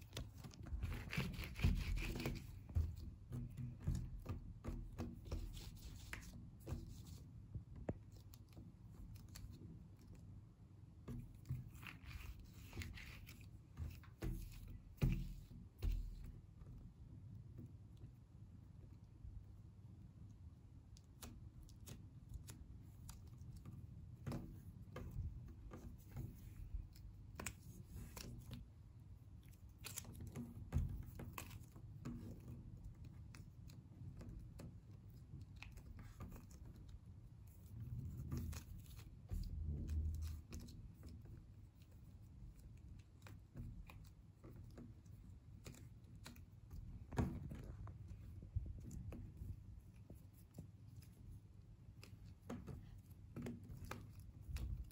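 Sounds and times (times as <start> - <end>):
hands handling plasticine: 0.0 - 54.9.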